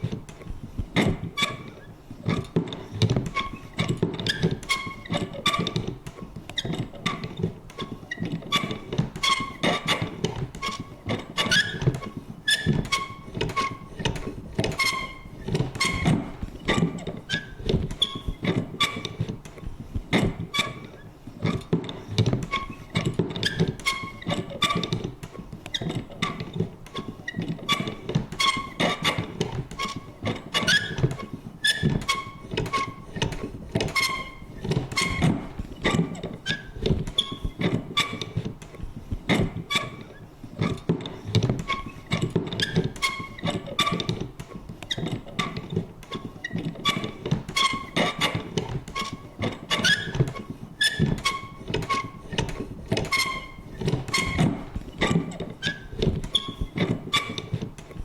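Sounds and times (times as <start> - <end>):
mechanism creaking: 1.0 - 19.6, 20.2 - 58.0.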